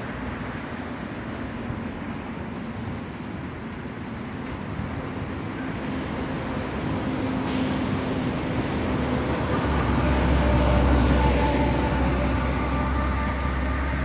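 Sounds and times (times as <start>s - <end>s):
jet engines high hiss: 2.7s - 14.0s.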